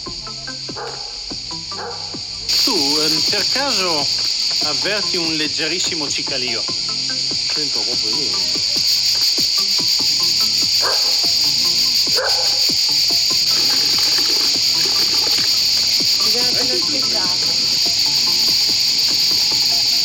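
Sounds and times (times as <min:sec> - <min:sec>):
cicadas chirring: 0:00.0 - 0:20.0.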